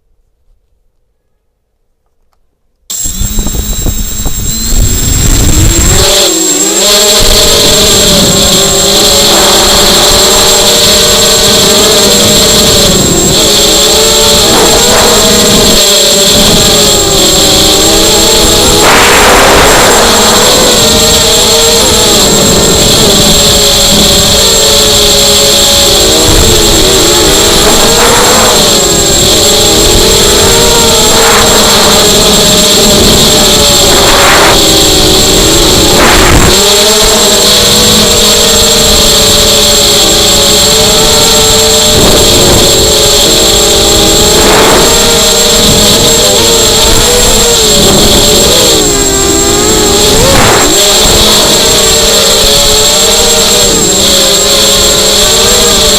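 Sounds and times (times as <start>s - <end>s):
quadcopter motors buzzing: 2.9s - 55.9s.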